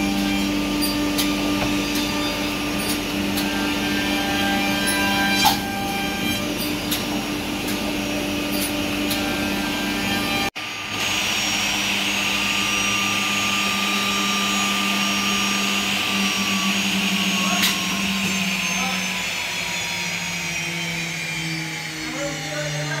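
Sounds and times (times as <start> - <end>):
machine motor hum: 0.0 - 23.0.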